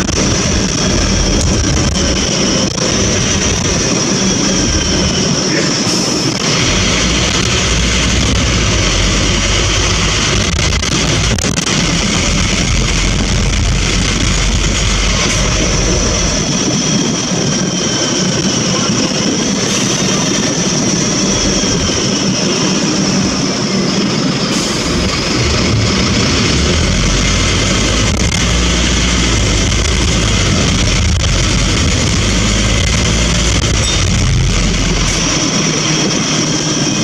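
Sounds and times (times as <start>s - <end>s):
bus diesel engine drone: 0.0s - 37.0s
high whine: 0.0s - 37.0s
road noise: 0.0s - 37.0s.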